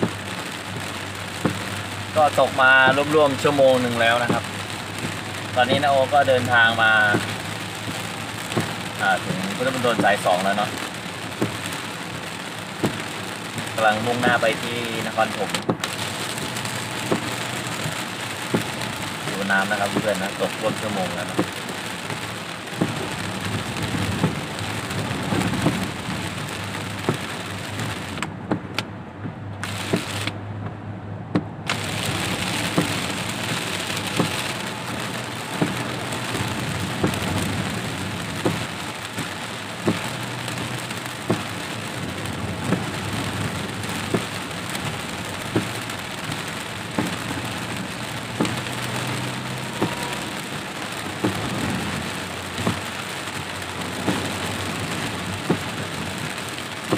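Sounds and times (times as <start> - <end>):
heavy rain on car roof: 0.0 - 56.9
windshield wipers knocking: 0.0 - 56.9.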